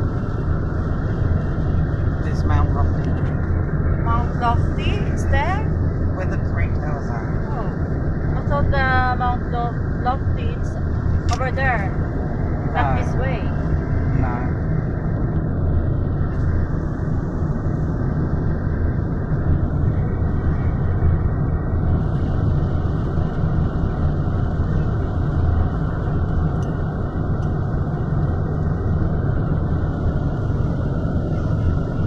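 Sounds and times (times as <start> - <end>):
car driving interior rumble: 0.0 - 32.0.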